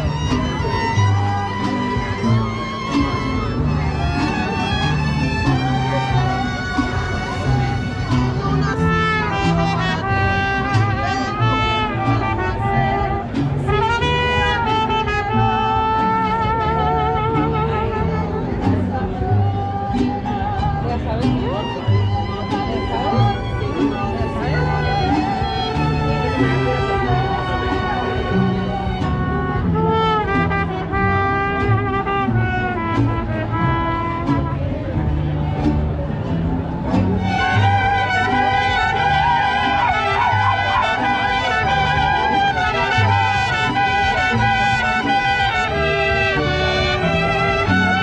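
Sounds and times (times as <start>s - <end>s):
trumpets: 0.0s - 19.3s, 21.5s - 35.4s, 37.2s - 48.0s
bass line: 0.0s - 48.0s
mariachi band playing: 0.0s - 48.0s
strummed guitars: 0.0s - 48.0s
violins: 0.0s - 48.0s.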